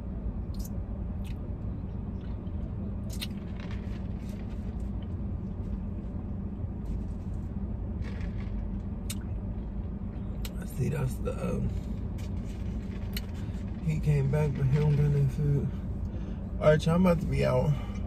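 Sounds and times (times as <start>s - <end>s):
parked car engine hum: 0.0s - 18.0s.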